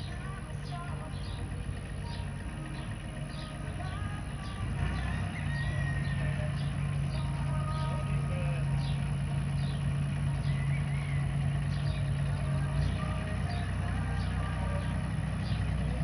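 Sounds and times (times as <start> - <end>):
songbirds chirping: 0.0 - 16.0
tractor engine humming: 0.0 - 16.0.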